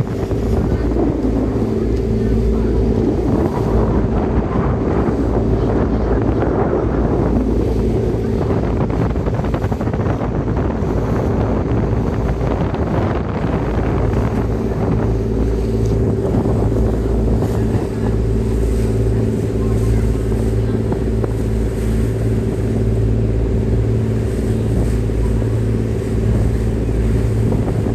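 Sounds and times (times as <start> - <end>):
boat engine humming: 0.0 - 27.9
water washing: 0.0 - 27.9
wind buffeting microphone: 0.0 - 27.9.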